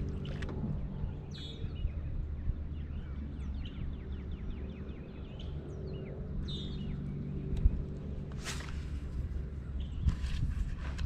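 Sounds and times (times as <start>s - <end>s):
songbirds calling: 0.0s - 11.0s.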